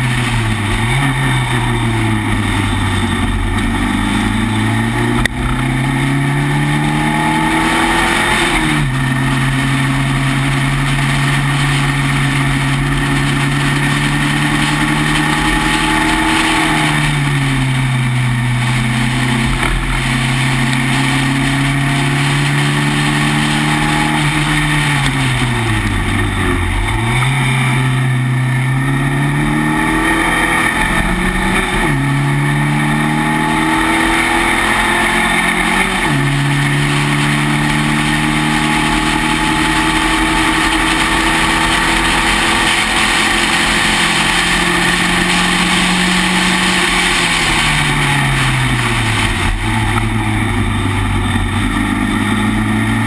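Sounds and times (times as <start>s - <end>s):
race car engine at speed: 0.0s - 53.0s.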